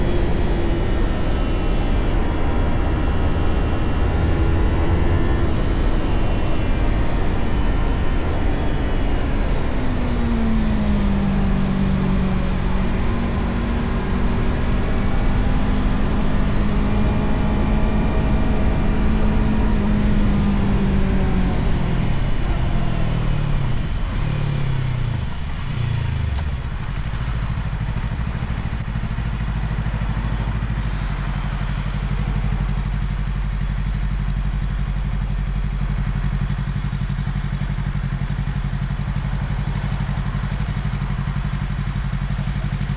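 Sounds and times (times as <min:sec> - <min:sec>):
wind noise: 0:00.0 - 0:35.2
motorcycle engine: 0:00.0 - 0:42.9.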